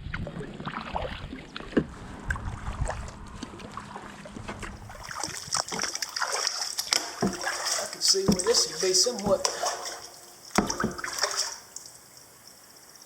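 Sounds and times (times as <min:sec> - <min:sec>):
paddle dipping into water: 0:00.0 - 0:12.0
water dripping and splashing: 0:00.0 - 0:13.0
steady high hiss: 0:01.9 - 0:13.0.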